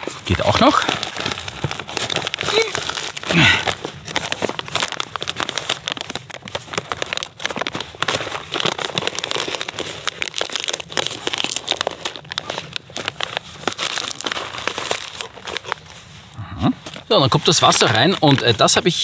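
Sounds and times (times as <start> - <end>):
foil pouch crinkling: 0.0 - 19.0.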